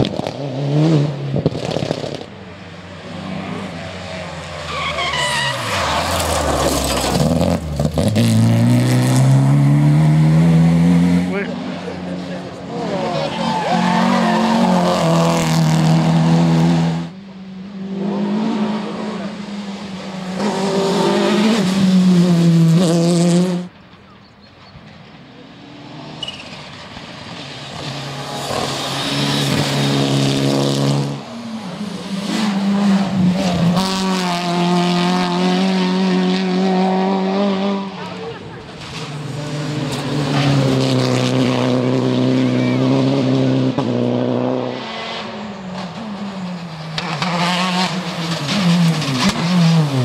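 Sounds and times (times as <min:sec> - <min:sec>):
rally cars passing at full throttle: 0:00.0 - 0:50.0.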